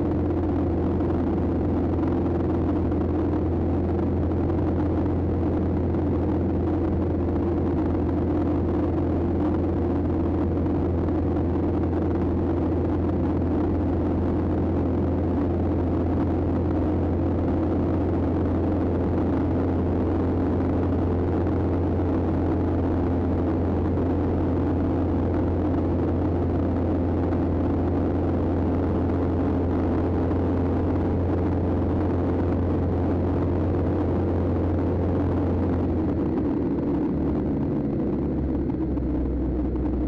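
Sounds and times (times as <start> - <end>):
airplane engine drone in cabin: 0.0 - 40.0.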